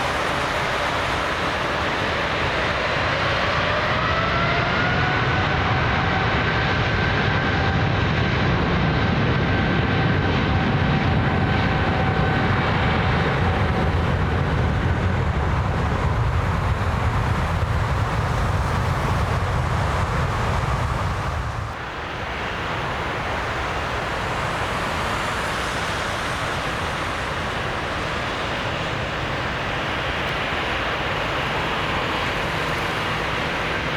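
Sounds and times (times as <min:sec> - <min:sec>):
jet engine whine: 0:00.0 - 0:33.9
jet engines rumbling: 0:00.0 - 0:33.9.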